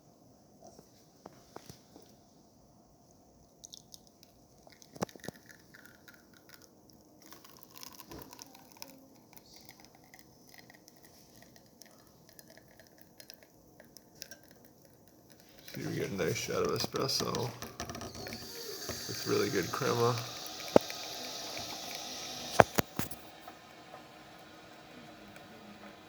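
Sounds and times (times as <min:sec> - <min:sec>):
espresso dripping and crackling: 0:03.6 - 0:26.0.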